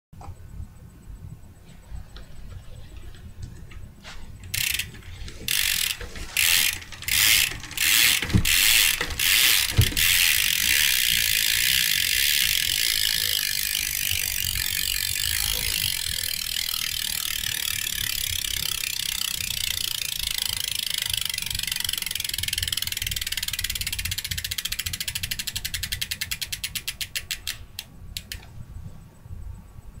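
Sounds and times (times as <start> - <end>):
bike hub ratcheting clicks: 4.4 - 28.5.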